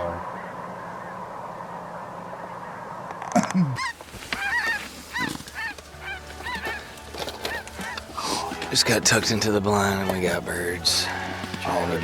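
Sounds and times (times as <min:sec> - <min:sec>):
geese yelping calls: 0:00.0 - 0:12.0.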